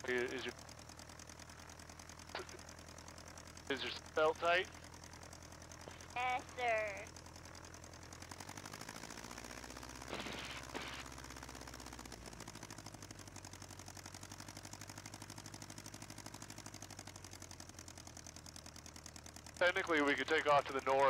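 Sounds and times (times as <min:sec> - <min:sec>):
small plane engine idling: 0:00.0 - 0:21.0.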